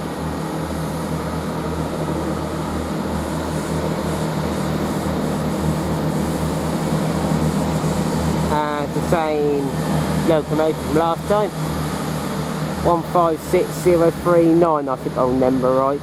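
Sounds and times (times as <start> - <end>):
train diesel engines drone: 0.0 - 16.0.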